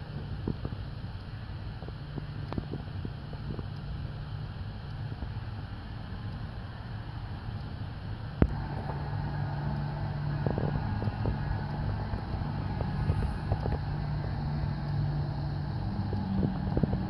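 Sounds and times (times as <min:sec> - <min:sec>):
low hum: 0:00.0 - 0:17.0
road traffic: 0:00.0 - 0:17.0.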